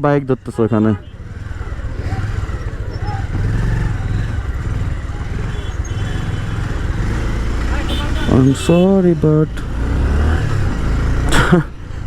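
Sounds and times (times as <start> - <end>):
motorcycle engine running: 0.5 - 12.0.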